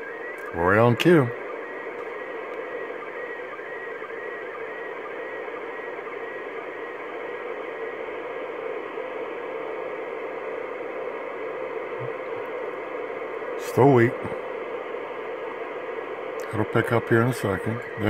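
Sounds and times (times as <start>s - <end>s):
faint image tones: 0.0s - 18.0s
faint pulse: 0.0s - 18.0s
radio hiss and static: 0.0s - 18.0s.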